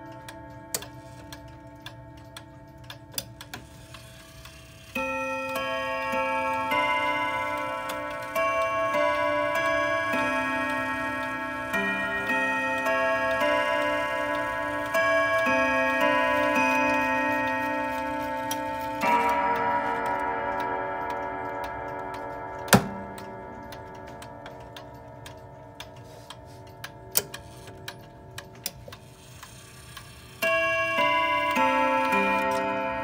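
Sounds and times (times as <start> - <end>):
clock chime rods ringing: 0.0 - 33.0
faint clock ticks: 0.0 - 33.0.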